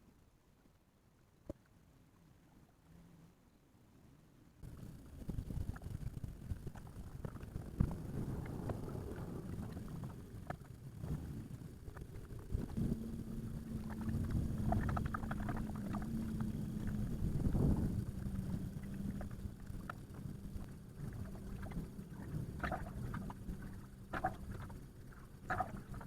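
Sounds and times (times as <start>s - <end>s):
steady low hum: 0.0s - 26.0s
wind buffeting microphone: 4.6s - 26.0s
water slapping: 4.7s - 26.0s.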